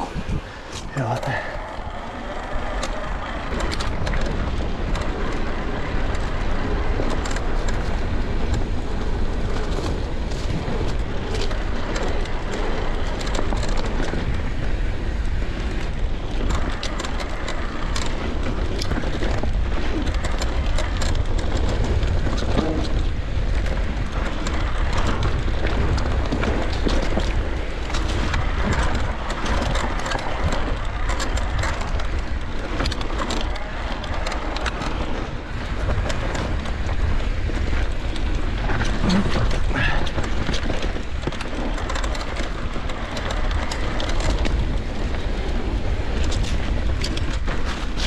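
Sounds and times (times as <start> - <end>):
bike clicks and rattles: 0.0 - 48.0
bike tyres rolling over ground: 0.0 - 48.0
wind rumble on microphone: 0.0 - 48.0.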